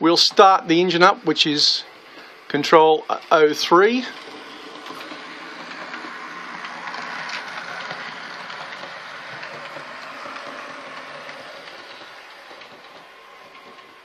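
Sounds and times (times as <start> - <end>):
wheels rattling on rails: 0.0 - 14.0
model train motor whirring: 0.1 - 14.0.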